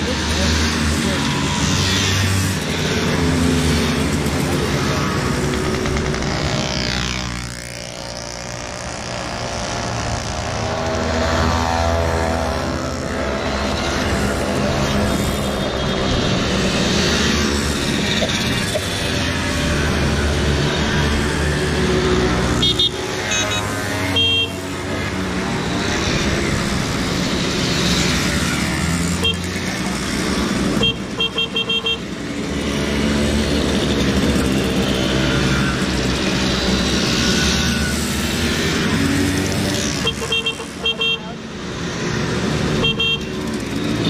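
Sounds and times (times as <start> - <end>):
mopeds and motorcycles passing: 0.0 - 44.0.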